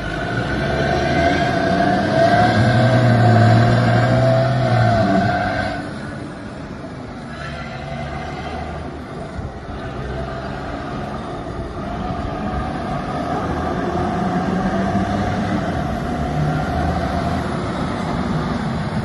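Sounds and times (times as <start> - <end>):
engine whine: 0.0 - 19.0.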